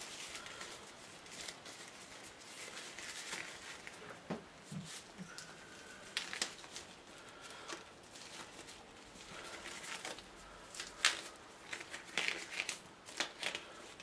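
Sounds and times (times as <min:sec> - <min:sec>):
glove rustling and crinkling: 0:00.0 - 0:14.0.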